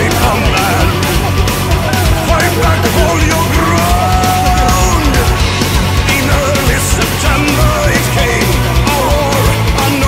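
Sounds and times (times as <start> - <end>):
heavy rock music: 0.0 - 10.0.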